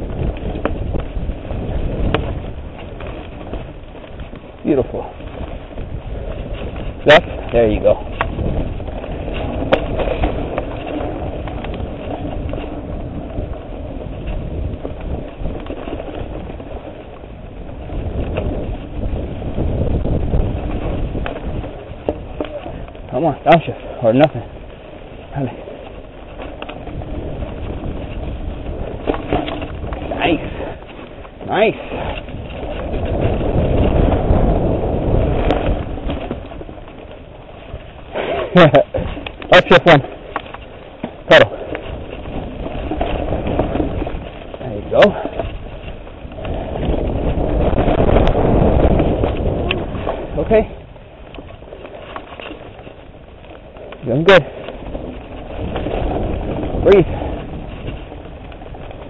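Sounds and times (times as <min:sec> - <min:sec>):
bike rattling over roots and rocks: 0:00.0 - 0:59.0
bike tyres rumbling on dirt: 0:00.0 - 0:59.0
wind on microphone: 0:00.0 - 0:59.0.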